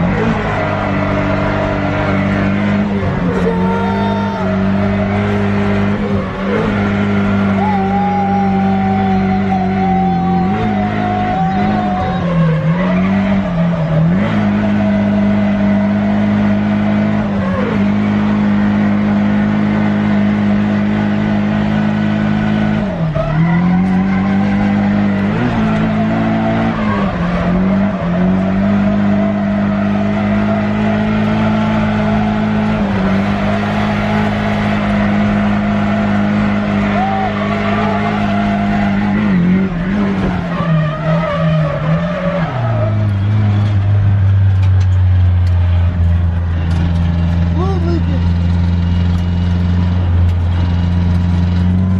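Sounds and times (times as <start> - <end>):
car engine at high revs: 0.0 - 51.9
tyres skidding: 0.0 - 51.9.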